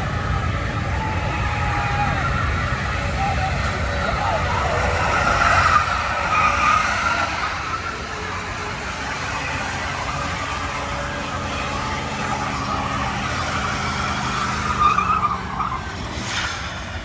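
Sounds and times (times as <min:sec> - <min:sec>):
truck engine revving: 0:00.0 - 0:17.0
tyres squealing: 0:00.0 - 0:17.0.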